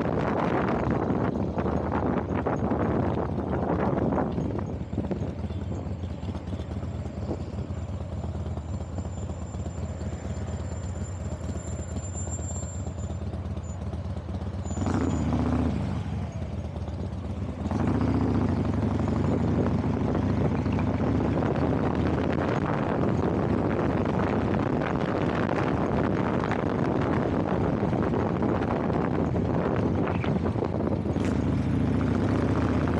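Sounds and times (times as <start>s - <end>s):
road noise: 0.0s - 32.9s
vehicle engine running: 0.0s - 32.9s.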